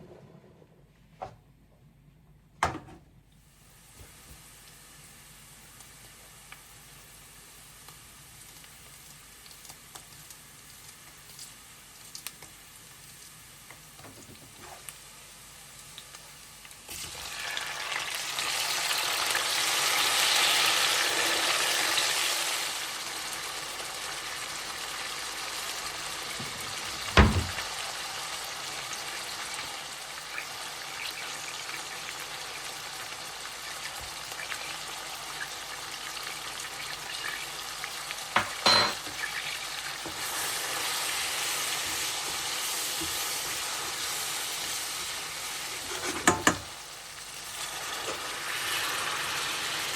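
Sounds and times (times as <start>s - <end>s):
food sizzling in hot oil: 3.5s - 49.9s.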